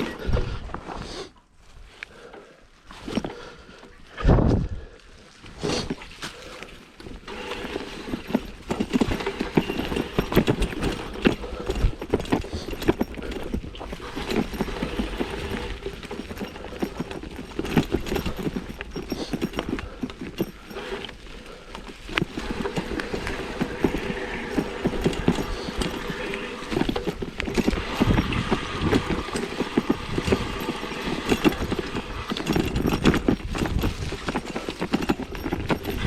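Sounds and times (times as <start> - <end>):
bike rattling and clattering: 0.0 - 0.5, 5.8 - 36.0
tyres rumbling on dirt: 5.7 - 36.0.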